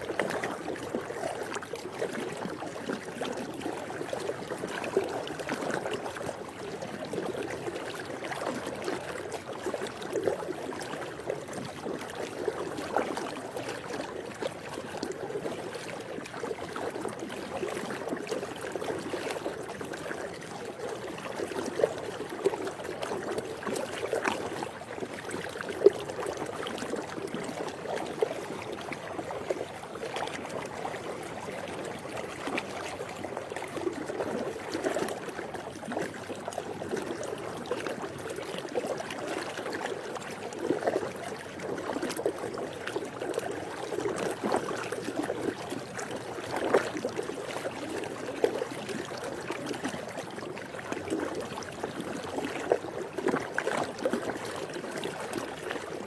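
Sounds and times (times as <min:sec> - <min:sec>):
pool water lapping and gurgling: 0:00.0 - 0:56.0
water splashes and drips: 0:00.0 - 0:56.0.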